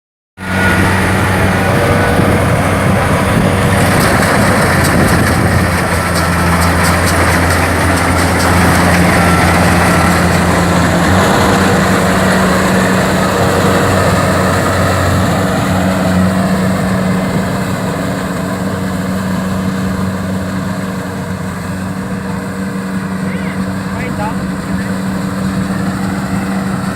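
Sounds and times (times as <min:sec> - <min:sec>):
combine harvester engine hum: 0:00.4 - 0:26.9
machinery clatter: 0:00.5 - 0:26.9.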